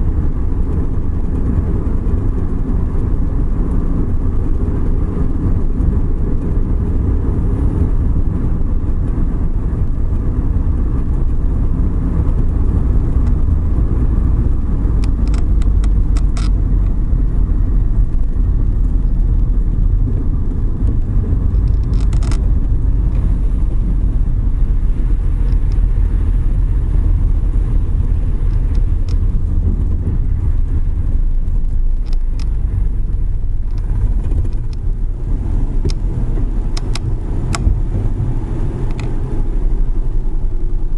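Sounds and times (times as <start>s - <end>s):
engine and tyre rumble: 0.0s - 40.9s.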